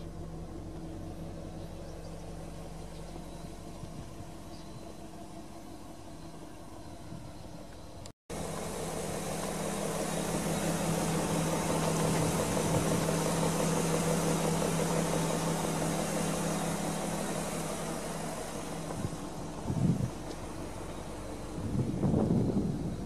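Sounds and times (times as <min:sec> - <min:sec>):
car engine humming: 0:00.0 - 0:23.0.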